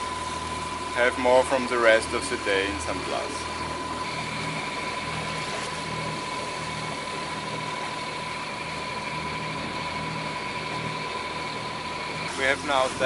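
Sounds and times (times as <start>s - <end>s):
boat diesel engine humming: 0.0s - 13.0s.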